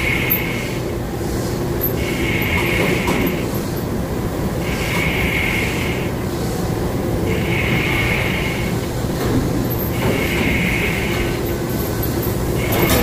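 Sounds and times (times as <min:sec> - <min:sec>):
heavy factory machinery rumbling: 0:00.0 - 0:13.0.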